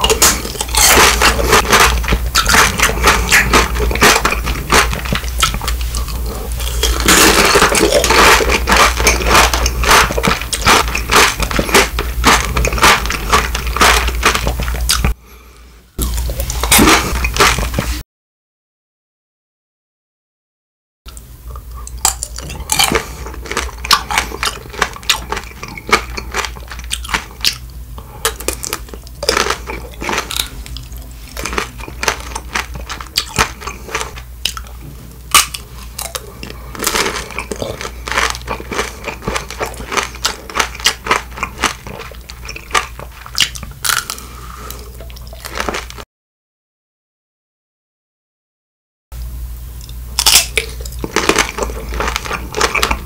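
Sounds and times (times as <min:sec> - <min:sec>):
candy shell crunching: 0:00.0 - 0:15.2, 0:16.0 - 0:17.9, 0:21.8 - 0:27.6, 0:28.2 - 0:44.3, 0:45.1 - 0:46.0, 0:50.2 - 0:53.0
chewing: 0:00.0 - 0:15.2, 0:21.1 - 0:46.0, 0:49.8 - 0:53.0.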